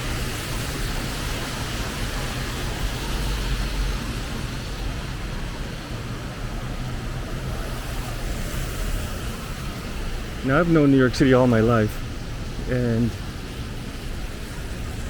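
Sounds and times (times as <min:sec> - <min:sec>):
traffic on wet roads: 0:00.0 - 0:15.0.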